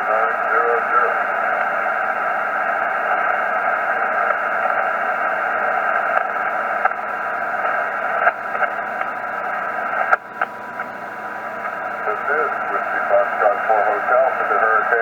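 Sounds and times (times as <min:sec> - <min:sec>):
radio band noise hiss: 0:00.0 - 0:15.0
sharp static clicks: 0:00.0 - 0:15.0.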